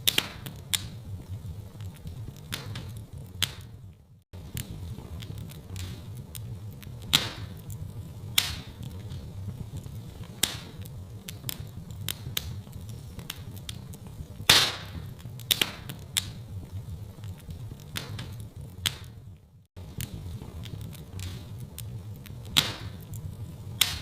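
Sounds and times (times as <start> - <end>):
low rumble of burning: 0.0 - 24.0
wood fire crackling and popping: 0.0 - 24.0.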